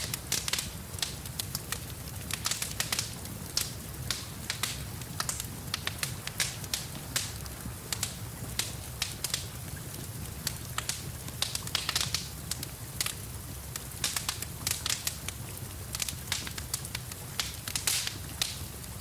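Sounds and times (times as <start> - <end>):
rain falling: 0.0 - 19.0
wood fire crackling and popping: 0.0 - 19.0.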